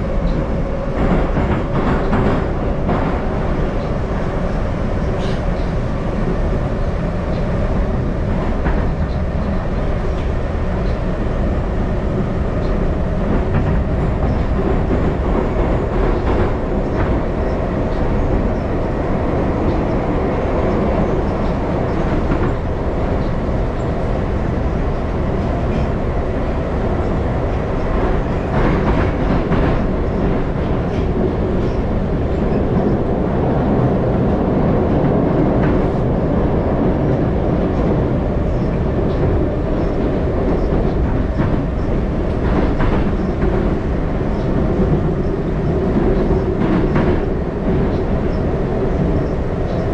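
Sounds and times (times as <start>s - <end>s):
train rumbling in a tunnel: 0.0s - 49.9s.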